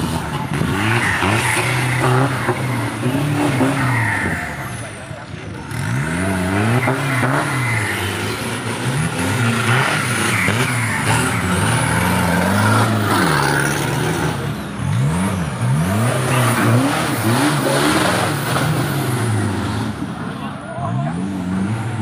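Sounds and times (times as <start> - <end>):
diesel truck engine revving: 0.0 - 22.0.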